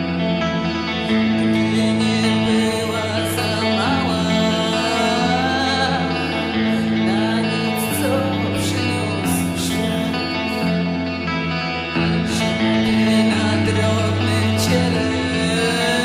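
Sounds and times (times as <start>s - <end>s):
electric guitar and bass chords: 0.0s - 16.0s
person singing: 0.0s - 16.0s.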